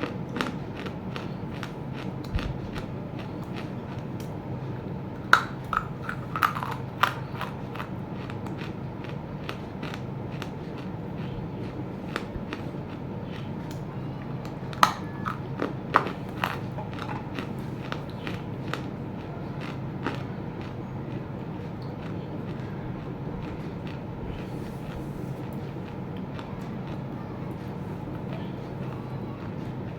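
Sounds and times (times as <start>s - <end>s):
clay chunks crunching when chewed: 0.0s - 29.9s
low background noise: 0.0s - 29.9s.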